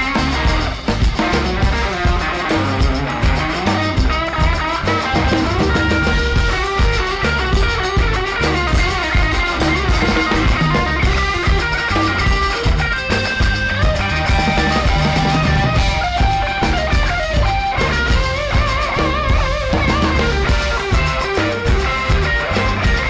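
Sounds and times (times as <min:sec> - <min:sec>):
rock band playing instrumental: 0:00.0 - 0:23.0.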